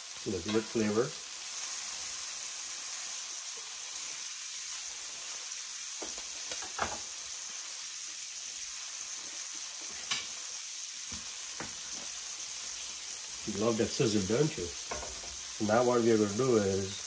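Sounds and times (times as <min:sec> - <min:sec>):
steaks sizzling in skillet: 0:00.0 - 0:17.0.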